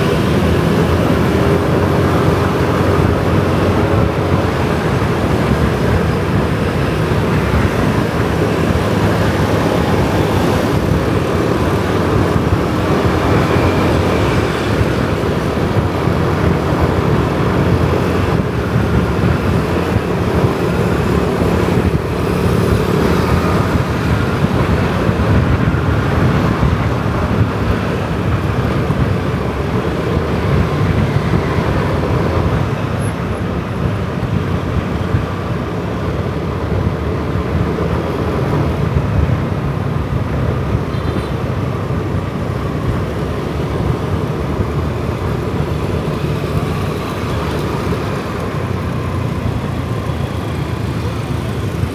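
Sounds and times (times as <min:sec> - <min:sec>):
motorcycle engine running: 0:00.0 - 0:51.9
road and traffic noise: 0:00.0 - 0:51.9.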